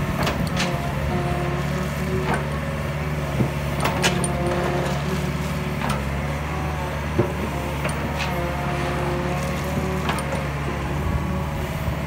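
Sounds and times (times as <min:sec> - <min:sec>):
diesel engine running: 0:00.0 - 0:12.0
hydraulic whine: 0:00.0 - 0:12.0.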